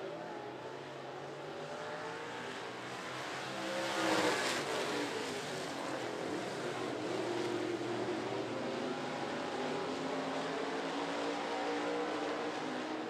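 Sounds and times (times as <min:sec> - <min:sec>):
race car engines passing: 0:00.1 - 0:13.0.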